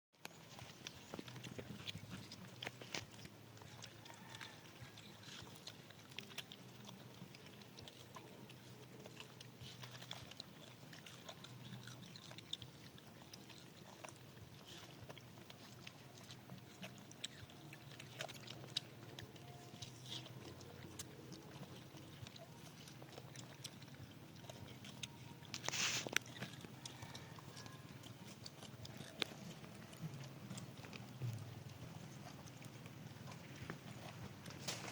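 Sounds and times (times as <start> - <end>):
monkeys chewing wetly: 0.2 - 34.9.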